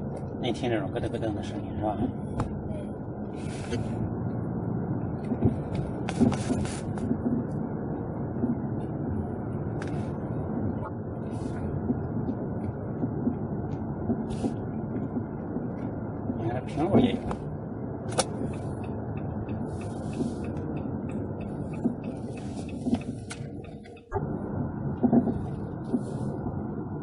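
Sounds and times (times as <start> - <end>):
car road rumble: 0.0 - 27.0
suspension clunks: 0.0 - 27.0.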